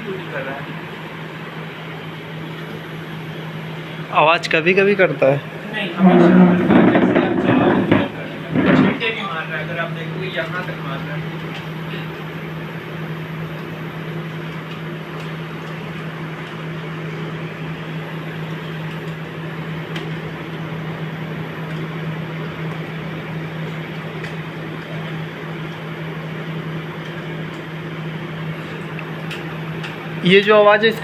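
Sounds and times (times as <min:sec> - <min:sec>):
air conditioner humming: 0:00.0 - 0:31.0
fan rushing: 0:00.0 - 0:31.0.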